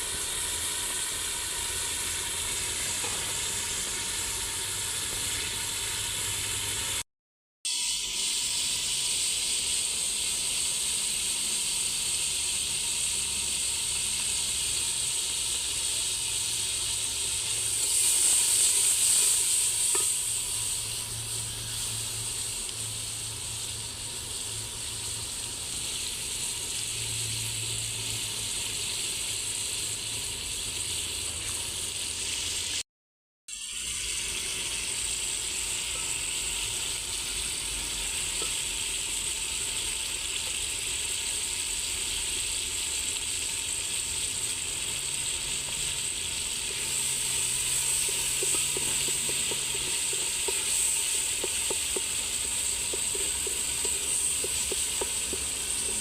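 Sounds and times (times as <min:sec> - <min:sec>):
food sizzling in a pan: 0:00.0 - 0:07.0, 0:07.7 - 0:32.8, 0:33.5 - 0:56.0.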